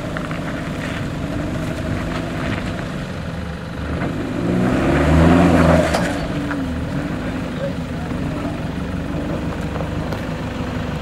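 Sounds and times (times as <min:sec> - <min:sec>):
truck engine revving under load: 0:00.0 - 0:11.0.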